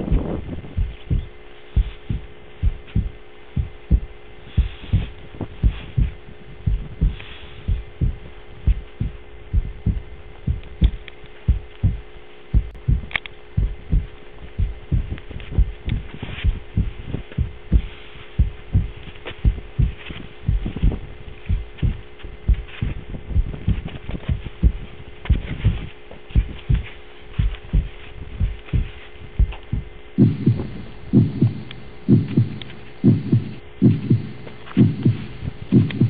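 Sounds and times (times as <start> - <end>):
heartbeat thudding: 0.0 - 36.0
low hum drone: 0.0 - 36.0.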